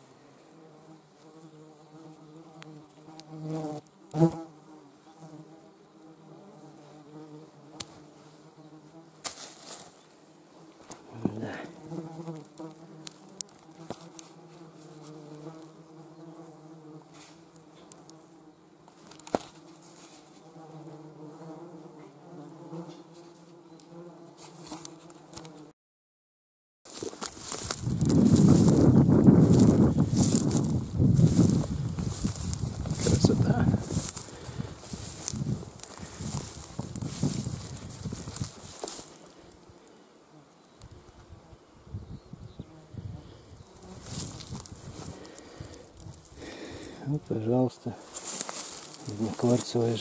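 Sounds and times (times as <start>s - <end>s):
insect buzzing: 0.0s - 25.8s, 26.9s - 50.0s.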